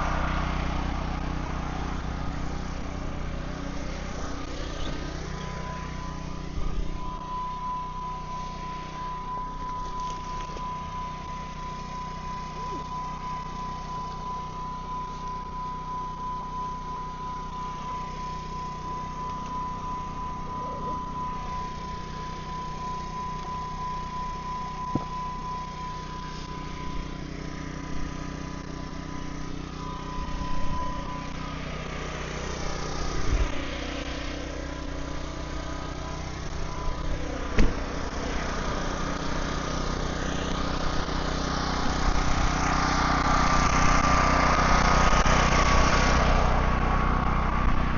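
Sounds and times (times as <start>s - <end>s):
engine running steadily: 0.0s - 47.9s
thin steady whine: 0.0s - 47.9s.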